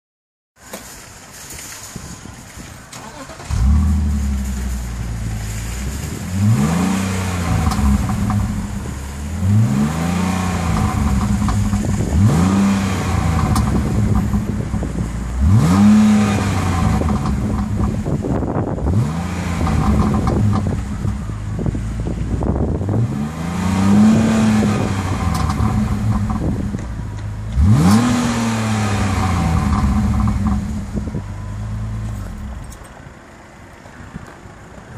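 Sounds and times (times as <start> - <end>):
car engine idling and revving: 3.0 - 34.9.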